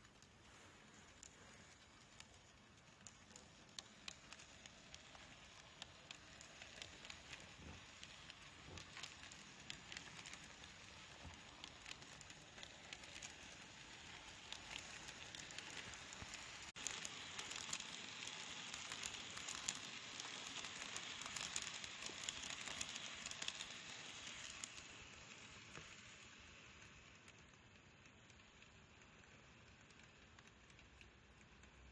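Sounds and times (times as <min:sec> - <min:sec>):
model train clicking on rails: 0:00.0 - 0:31.9.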